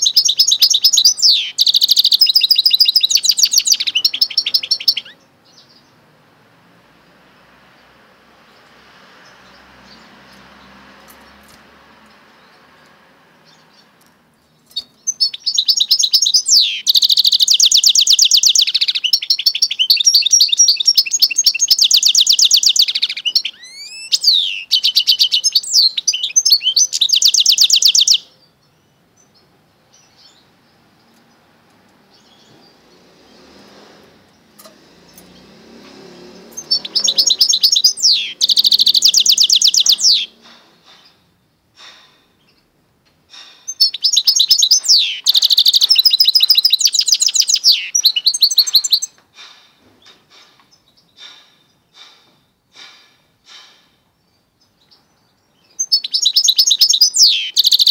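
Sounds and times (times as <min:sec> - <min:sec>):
bird twittering song: 0:00.0 - 0:06.0, 0:08.5 - 0:42.7, 0:43.3 - 0:57.9.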